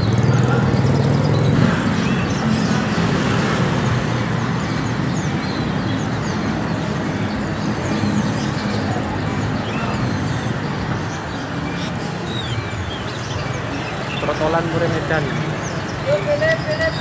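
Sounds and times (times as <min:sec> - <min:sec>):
road traffic rumble: 0:00.0 - 0:17.0
small birds chirping: 0:00.0 - 0:17.0.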